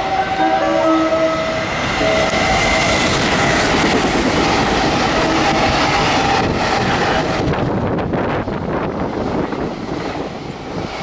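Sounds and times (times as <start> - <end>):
freight train passing: 0.0 - 11.0.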